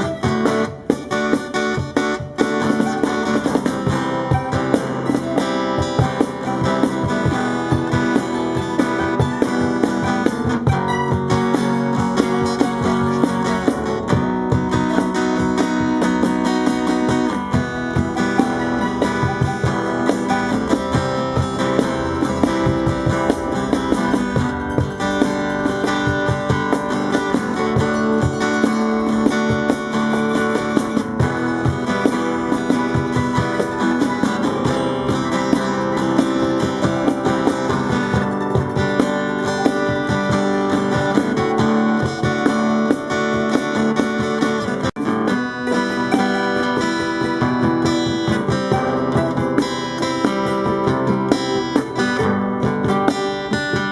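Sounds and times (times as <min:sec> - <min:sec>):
busy percussion: 0:00.0 - 0:53.9
strummed acoustic guitar: 0:00.0 - 0:53.9.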